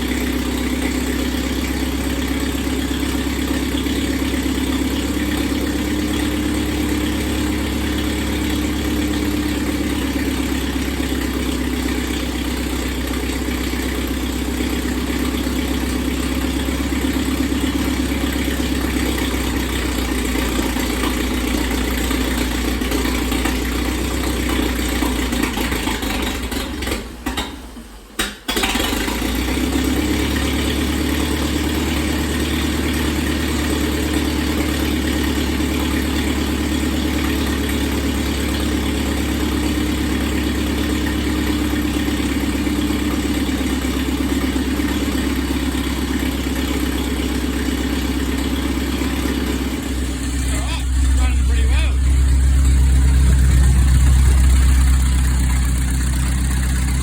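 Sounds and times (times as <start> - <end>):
tractor engine idling: 0.0 - 27.5, 28.5 - 57.0.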